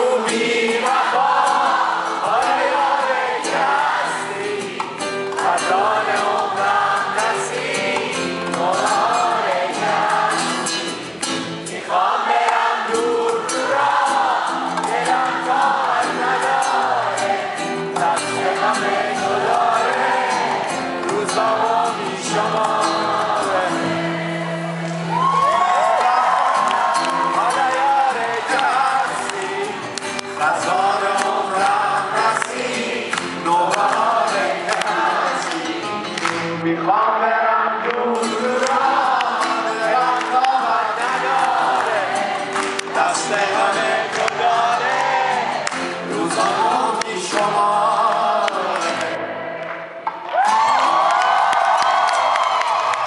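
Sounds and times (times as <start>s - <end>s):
person singing: 0.0s - 25.3s, 26.0s - 49.3s
acoustic guitars: 0.0s - 53.0s.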